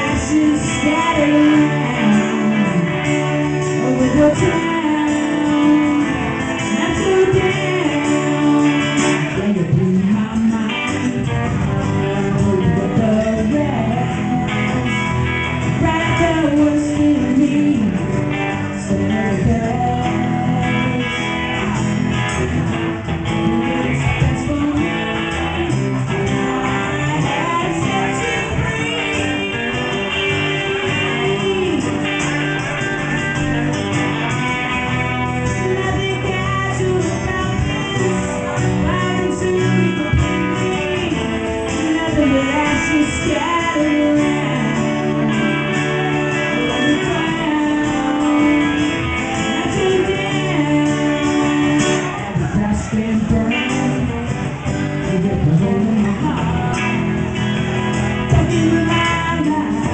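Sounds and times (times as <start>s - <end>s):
electric guitar: 0.0s - 59.9s
person singing: 0.0s - 59.9s
strummed acoustic guitar: 0.0s - 59.9s.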